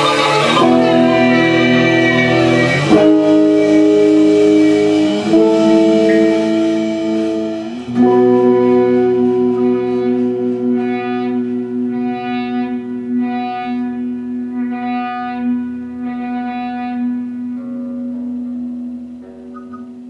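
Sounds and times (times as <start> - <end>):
electric violin and guitars drone: 0.0 - 19.8
higher tone: 0.0 - 20.0.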